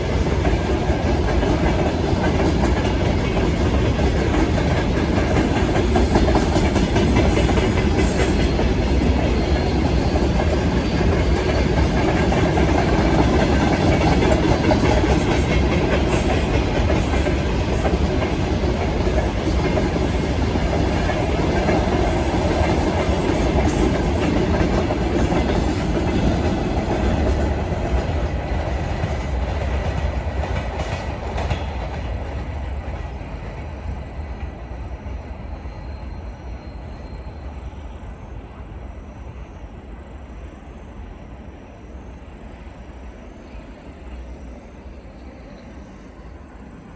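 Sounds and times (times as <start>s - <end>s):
train wheels clacking over rails: 0.0s - 40.3s
heavy train rumble: 0.0s - 46.9s.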